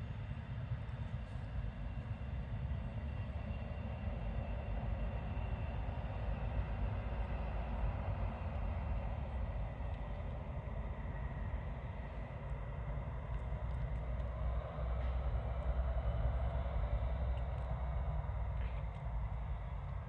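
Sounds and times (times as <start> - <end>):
distant diesel train drone: 0.0 - 20.0.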